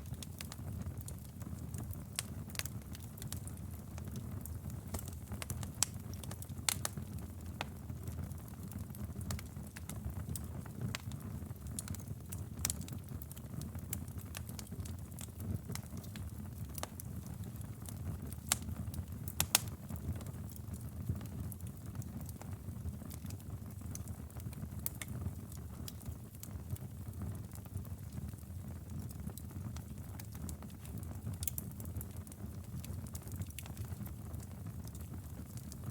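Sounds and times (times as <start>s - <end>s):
fire crackling and popping: 0.0s - 35.9s
fire flames rumbling: 0.0s - 35.9s.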